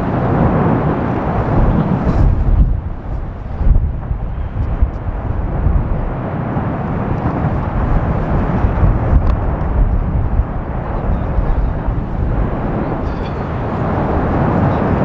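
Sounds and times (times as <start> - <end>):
volcanic eruption rumble: 0.0 - 15.0
wind buffeting microphone: 0.0 - 15.0.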